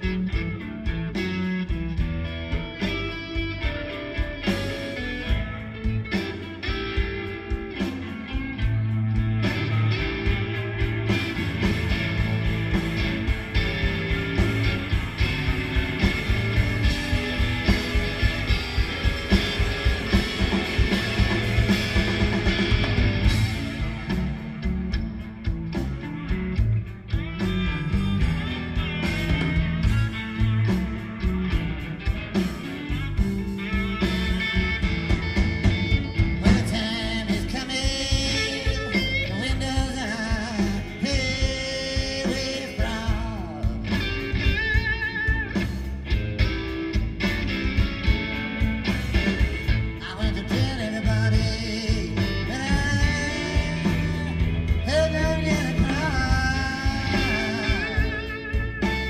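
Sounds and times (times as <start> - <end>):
live rock band playing: 0.0 - 59.0
sliding lead guitar line: 0.0 - 59.0.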